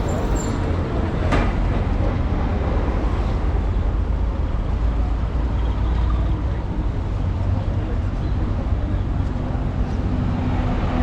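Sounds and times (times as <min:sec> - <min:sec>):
low rumble of motor vehicles: 0:00.0 - 0:11.0.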